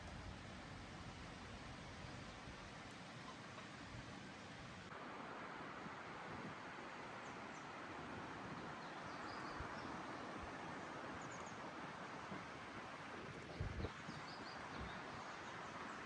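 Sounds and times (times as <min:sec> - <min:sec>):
faint outdoor rushing noise: 0:00.0 - 0:16.0.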